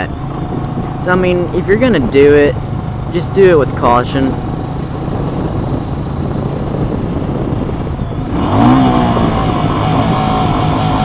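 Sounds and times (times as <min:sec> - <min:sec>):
motorcycle engine rumble: 0:00.0 - 0:11.0
wind noise: 0:00.0 - 0:11.0.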